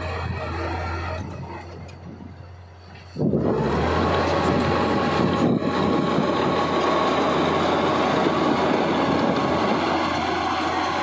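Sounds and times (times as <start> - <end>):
bulldozer diesel engine under load: 0.0 - 11.0.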